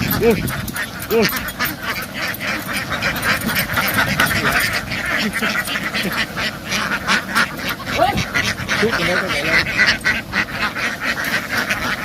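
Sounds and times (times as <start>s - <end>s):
flock of ducks quacking: 0.0s - 12.0s.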